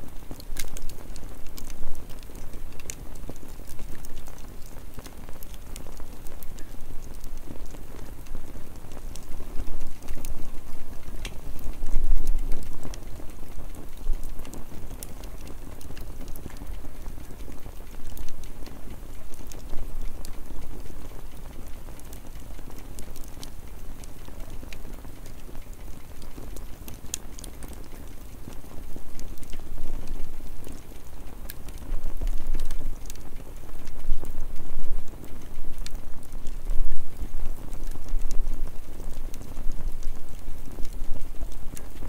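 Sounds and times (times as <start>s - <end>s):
fire crackling and popping: 0.0s - 42.0s
campfire flames rushing: 0.1s - 42.0s.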